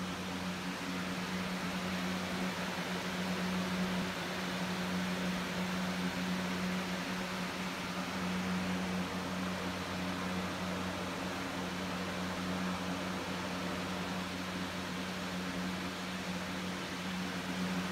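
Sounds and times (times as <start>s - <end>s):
air conditioner hum: 0.0s - 17.9s.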